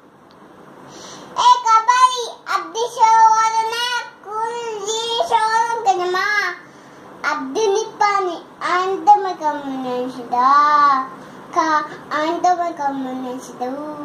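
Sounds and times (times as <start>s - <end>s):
young girl chanting sing-song: 1.2s - 14.0s.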